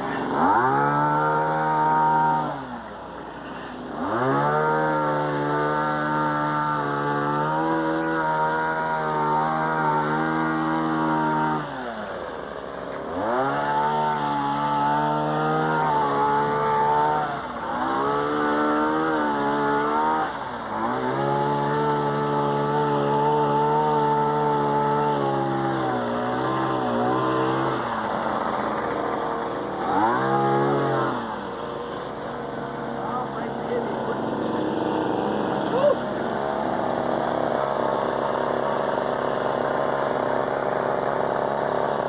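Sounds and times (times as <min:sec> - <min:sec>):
small gasoline engine revving: 0:00.0 - 0:42.0.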